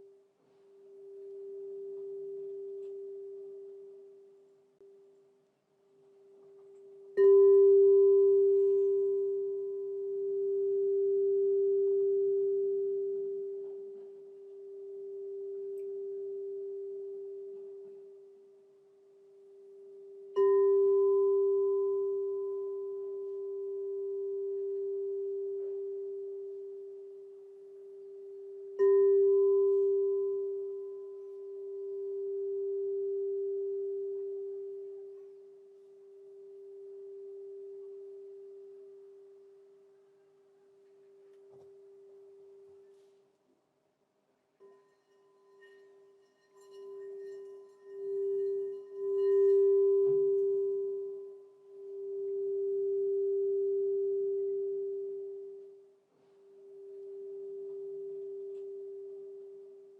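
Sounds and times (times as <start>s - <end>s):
crystal singing bowl ringing: 0.8s - 4.4s, 6.5s - 39.9s, 44.6s - 59.9s.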